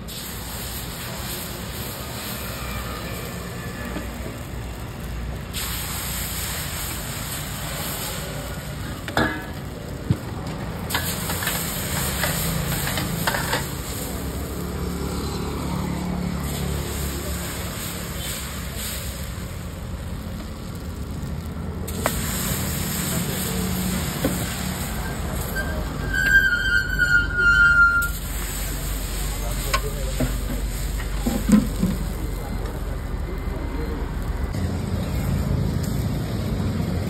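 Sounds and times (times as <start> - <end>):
batter sizzling on griddle: 0.0 - 37.0.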